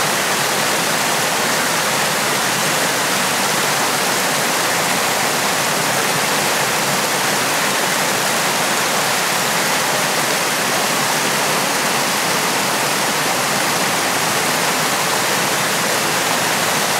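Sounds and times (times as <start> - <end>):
small waterfall splashing: 0.0 - 16.9.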